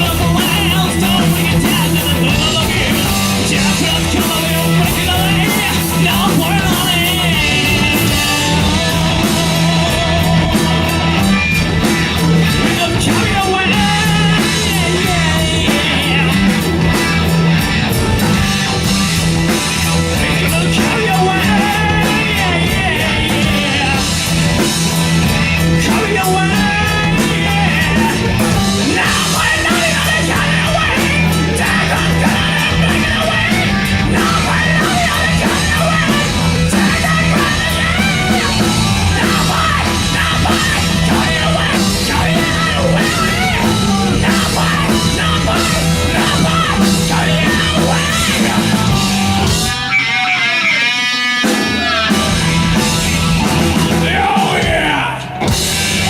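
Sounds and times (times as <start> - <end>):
hard rock band playing: 0.0 - 56.0.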